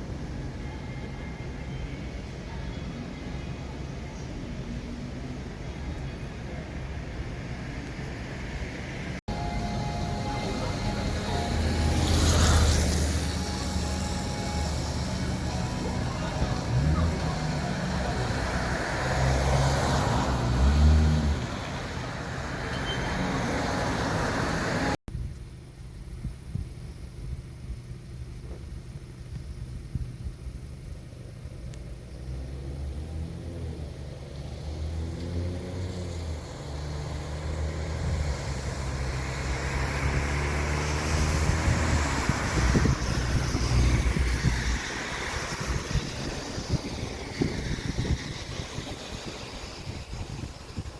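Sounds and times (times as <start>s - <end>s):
cars passing: 2.8s - 25.0s, 32.0s - 50.9s.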